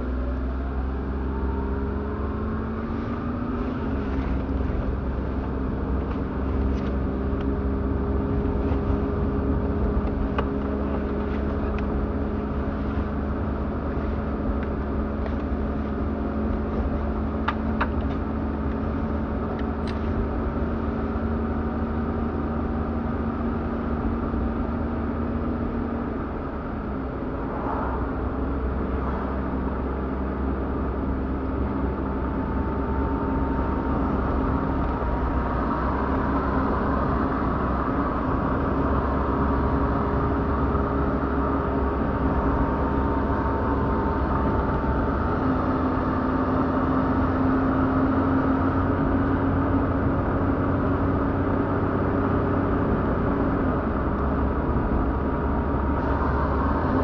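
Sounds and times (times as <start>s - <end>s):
car engine running: 0.0s - 57.0s
tyres rumbling on road: 0.0s - 57.0s.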